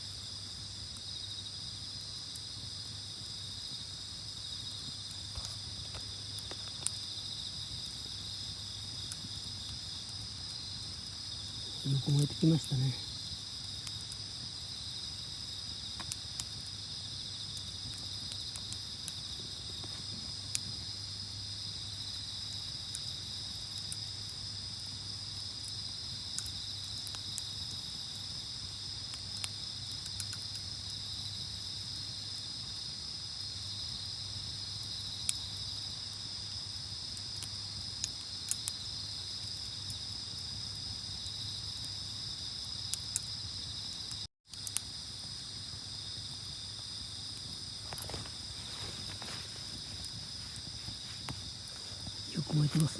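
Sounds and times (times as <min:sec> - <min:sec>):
campfire crackling: 0:00.0 - 0:52.9
insects chirring: 0:00.0 - 0:52.9.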